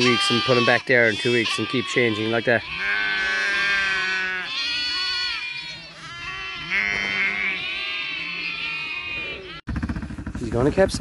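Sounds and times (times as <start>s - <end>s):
sheep and lambs bleating: 0.0s - 9.7s.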